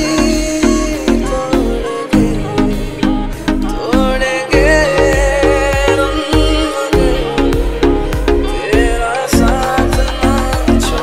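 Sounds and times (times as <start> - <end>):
instrumental music over a beat: 0.0 - 11.0.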